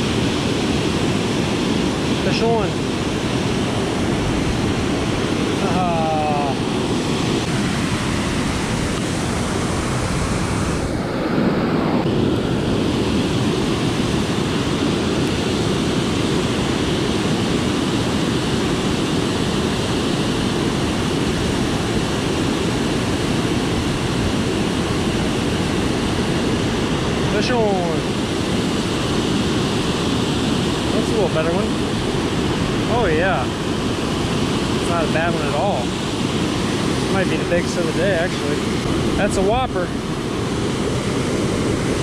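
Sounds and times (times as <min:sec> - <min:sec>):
water rushing over dam: 0:00.0 - 0:42.0.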